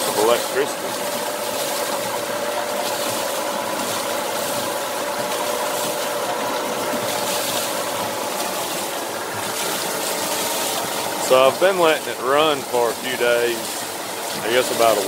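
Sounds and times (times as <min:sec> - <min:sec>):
generator turning: 0:00.0 - 0:15.0
water rushing onto wheel: 0:00.0 - 0:15.0.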